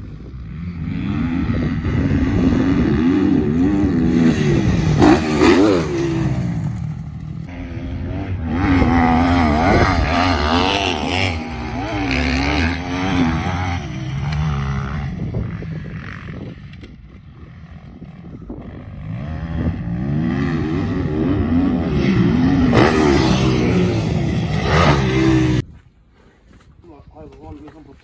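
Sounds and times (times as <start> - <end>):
dirt bike engine revving: 0.1 - 16.7, 17.3 - 25.6.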